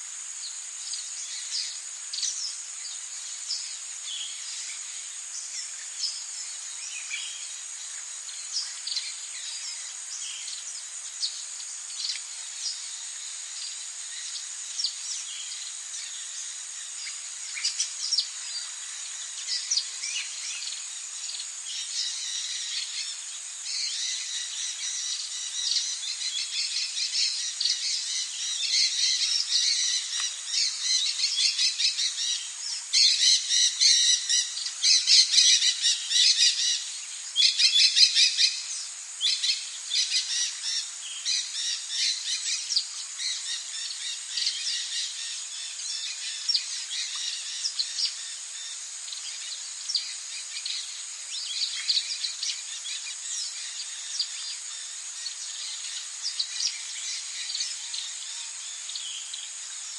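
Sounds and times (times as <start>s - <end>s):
birds singing and chirping: 0.0s - 59.9s
steady high hiss: 0.0s - 59.9s.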